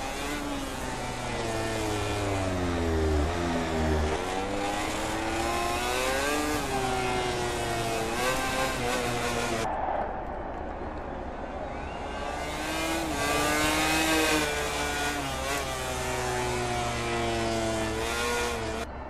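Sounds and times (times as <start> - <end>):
racing motorcycle engines revving: 0.0 - 9.7, 11.7 - 19.0.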